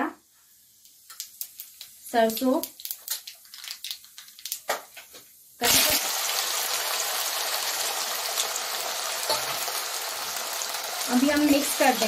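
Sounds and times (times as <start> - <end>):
potatoes sizzling in oil: 0.0 - 12.0
seeds crackling in hot oil: 0.5 - 12.0.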